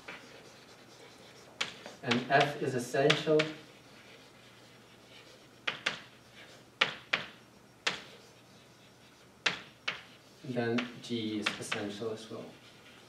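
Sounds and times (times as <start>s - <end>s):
chalk scratching: 0.0s - 13.0s
chalk tapping on blackboard: 0.0s - 13.0s.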